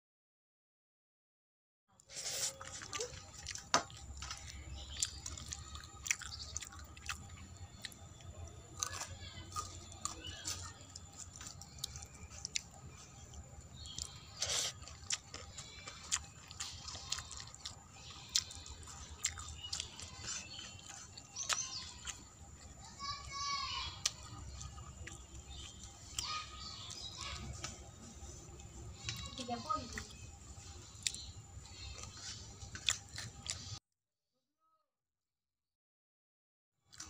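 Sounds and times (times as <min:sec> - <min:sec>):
chewing: 0:02.0 - 0:33.8.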